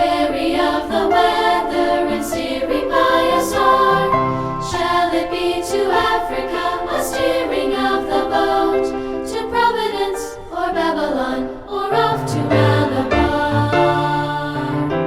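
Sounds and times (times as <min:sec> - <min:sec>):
choir singing: 0:00.0 - 0:15.0
piano accompaniment: 0:00.0 - 0:15.0.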